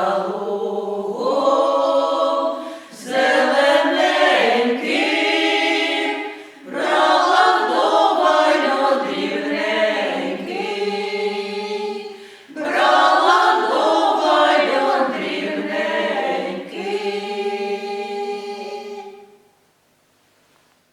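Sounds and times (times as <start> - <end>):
folk vocal ensemble singing: 0.0 - 19.6.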